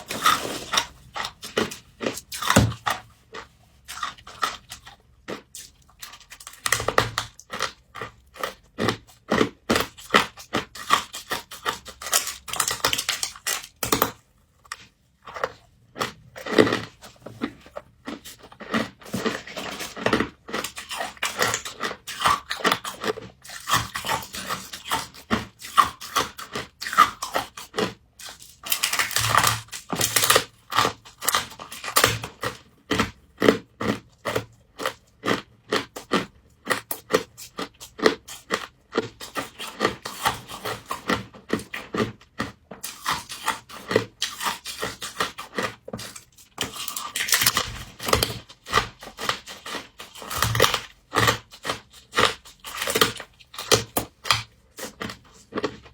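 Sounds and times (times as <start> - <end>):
crunching and chewing frost: 0.0 - 55.9.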